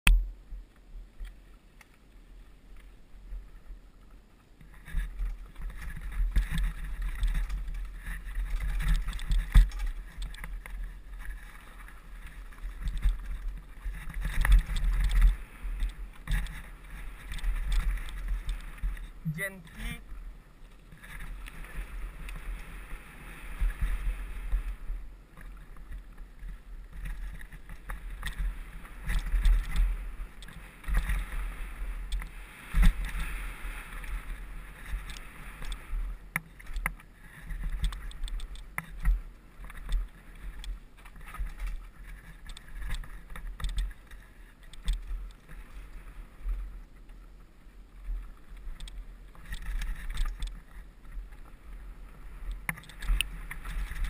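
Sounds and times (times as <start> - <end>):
wind and tyres on gravel: 0.0 - 54.0
bike rattling over bumps: 4.5 - 47.1, 48.2 - 54.0.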